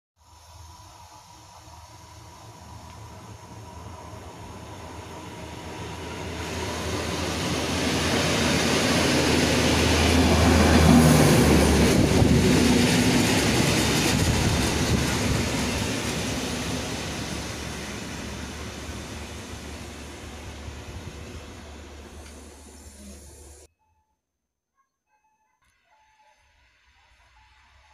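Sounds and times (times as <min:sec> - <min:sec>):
electric train passing: 0:00.2 - 0:23.7, 0:26.3 - 0:27.9
rail vehicle engine humming: 0:00.2 - 0:23.7.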